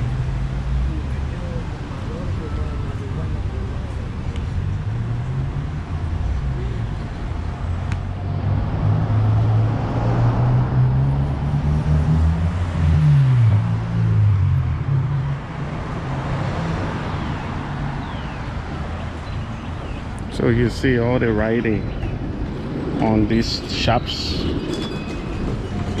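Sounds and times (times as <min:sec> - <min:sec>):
cars passing: 0:00.0 - 0:26.0.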